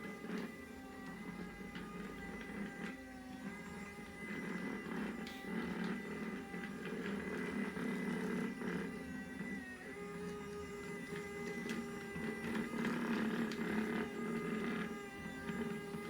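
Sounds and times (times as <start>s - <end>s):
robot vacuum cleaner whirring: 0.0s - 16.0s.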